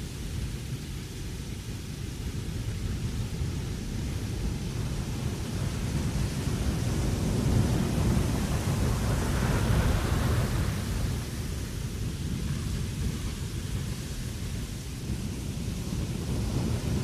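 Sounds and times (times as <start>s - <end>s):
wind blowing: 2.3s - 17.0s.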